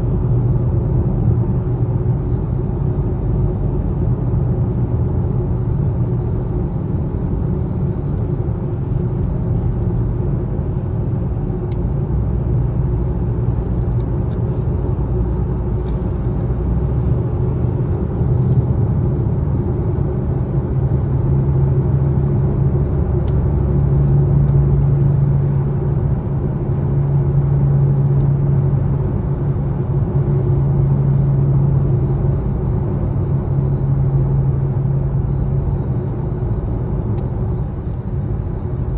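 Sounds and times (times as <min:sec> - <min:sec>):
low hum: 0:00.0 - 0:38.9
road and wind noise in car: 0:00.0 - 0:38.9.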